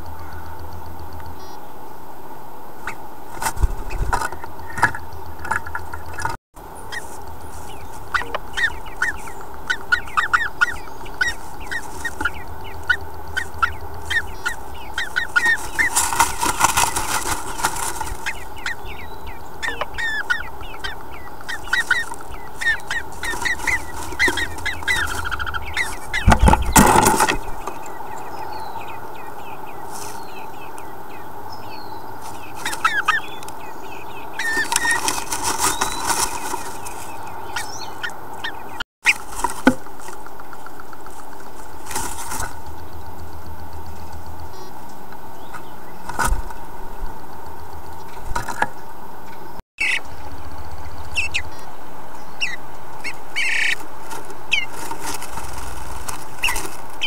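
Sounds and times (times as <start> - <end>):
steady hiss: 0.0 - 57.0
bird rustling twig nest: 2.7 - 49.6, 50.2 - 57.0
wings brushing nest box walls: 2.8 - 50.1, 50.9 - 57.0.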